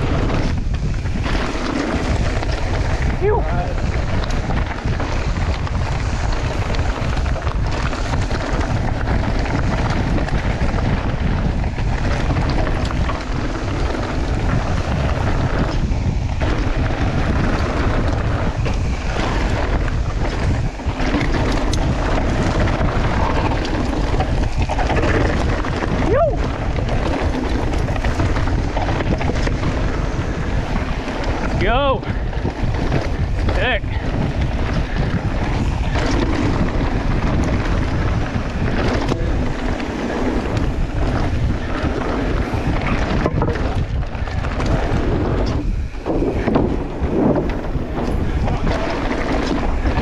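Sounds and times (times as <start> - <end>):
bike rattling: 0.0 - 50.0
bike tyres rolling over dirt: 0.0 - 50.0
wind buffeting microphone: 0.0 - 50.0.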